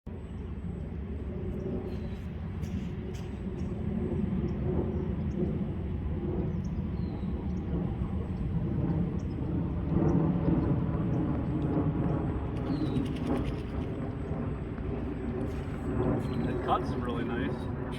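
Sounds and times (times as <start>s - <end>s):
model boat motor rumble and whine: 0.9s - 17.9s.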